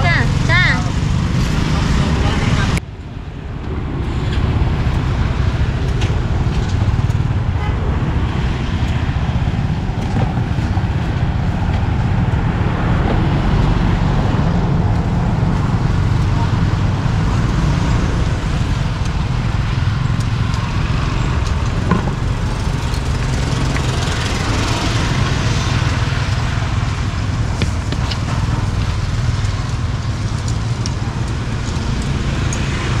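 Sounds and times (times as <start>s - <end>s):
cars passing: 0.0s - 33.0s
motorbikes passing: 0.0s - 33.0s
steady low rumble: 0.1s - 33.0s.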